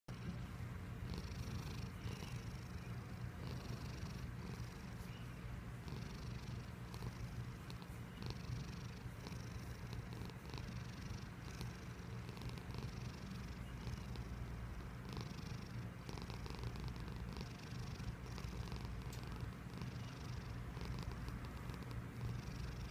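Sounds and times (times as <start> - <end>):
cat purring: 0.1 - 22.9.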